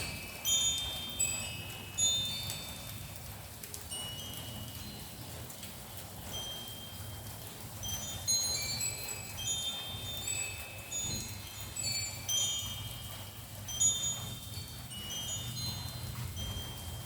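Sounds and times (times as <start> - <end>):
wind chime ringing: 0.0 - 17.0.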